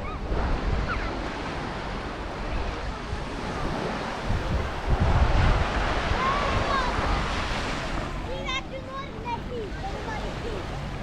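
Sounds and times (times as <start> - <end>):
waves breaking on beach: 0.0 - 11.0
wind buffeting microphone: 0.0 - 11.0.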